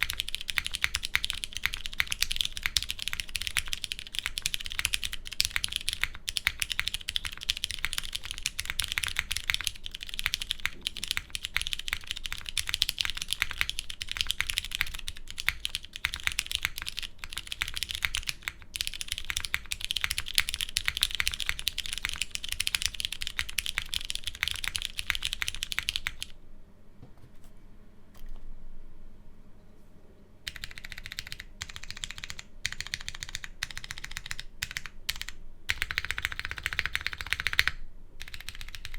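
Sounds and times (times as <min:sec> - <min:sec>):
mechanical keyboard typing: 0:00.0 - 0:26.4, 0:30.5 - 0:38.9.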